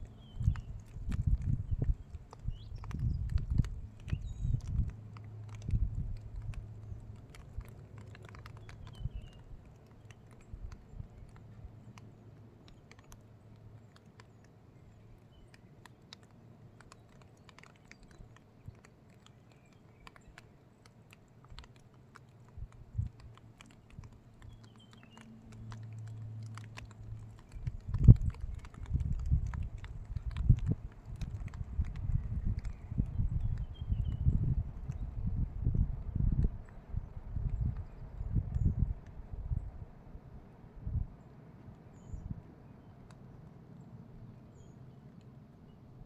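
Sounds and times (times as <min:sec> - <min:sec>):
light clicks and crackles: 0:00.0 - 0:46.0.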